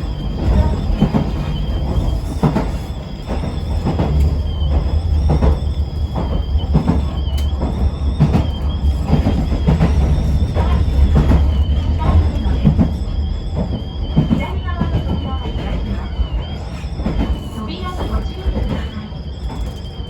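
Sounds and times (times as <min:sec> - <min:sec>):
train rumbling inside car: 0:00.0 - 0:20.0.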